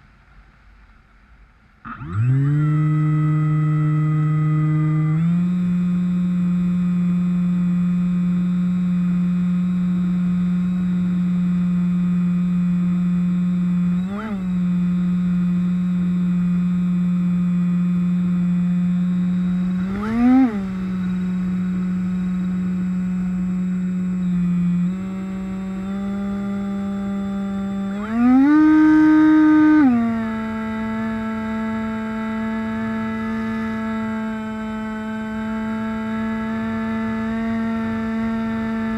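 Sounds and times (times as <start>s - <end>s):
model plane motor whine: 1.8s - 38.9s.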